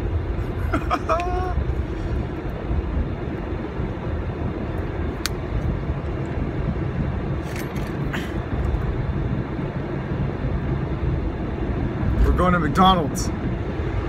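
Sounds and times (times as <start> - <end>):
car cabin rumble: 0.0 - 13.8.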